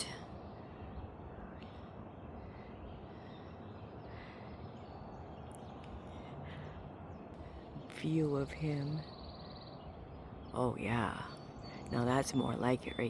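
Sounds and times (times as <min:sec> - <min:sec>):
distant bird calls: 0:00.0 - 0:13.0
low outdoor background noise: 0:00.0 - 0:13.0.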